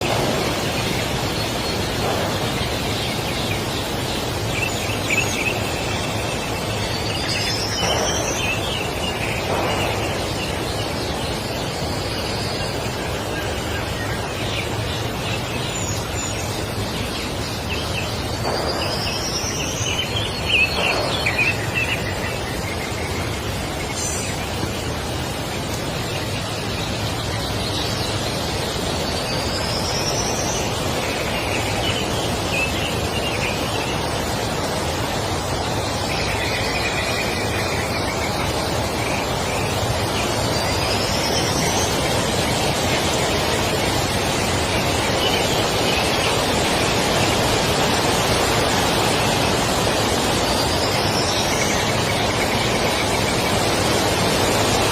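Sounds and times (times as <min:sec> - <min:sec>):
small birds chirping: 0:00.0 - 0:54.9
steady rushing noise: 0:00.0 - 0:54.9.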